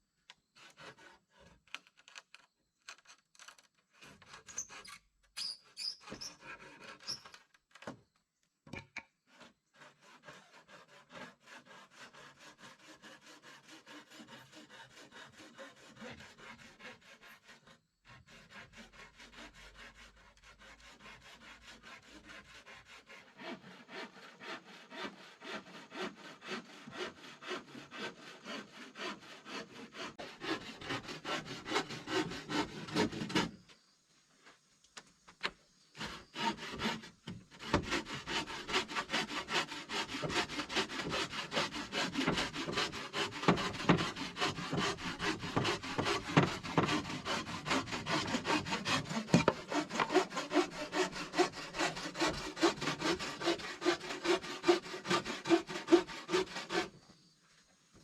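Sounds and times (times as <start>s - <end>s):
hand saw cutting wood: 0.5s - 2.3s, 2.9s - 7.6s, 9.1s - 33.6s, 36.0s - 57.0s.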